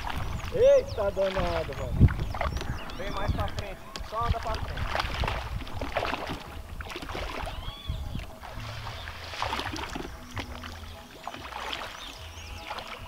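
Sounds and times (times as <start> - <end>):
people wading through water: 0.0 - 13.0
water sloshing and splashing: 0.0 - 13.0.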